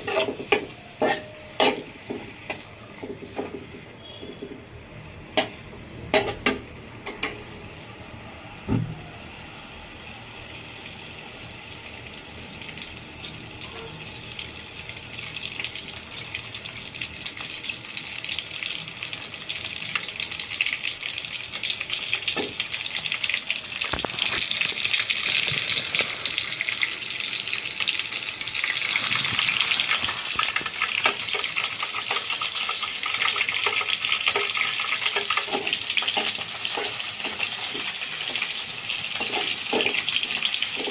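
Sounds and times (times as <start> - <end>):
food sizzling in a pan: 0.0 - 3.6, 9.8 - 40.9.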